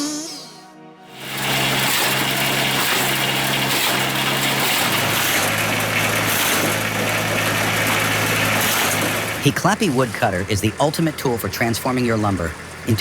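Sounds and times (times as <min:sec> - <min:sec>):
small engine running: 0:01.1 - 0:13.0.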